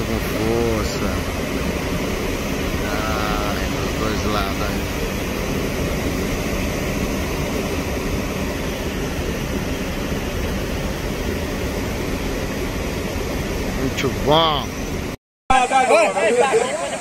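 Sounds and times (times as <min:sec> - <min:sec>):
water pouring over spillway: 0:00.0 - 0:14.6.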